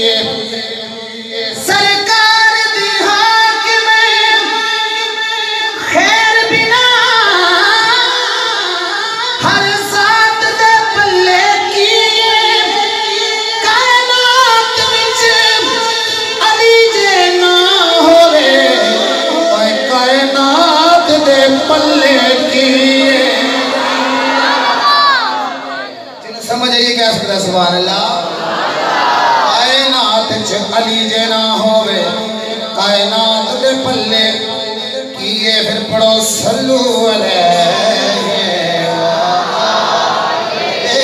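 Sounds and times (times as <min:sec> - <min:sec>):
man singing into microphone: 0:00.0 - 0:24.5, 0:29.5 - 0:39.7, 0:40.8 - 0:41.0.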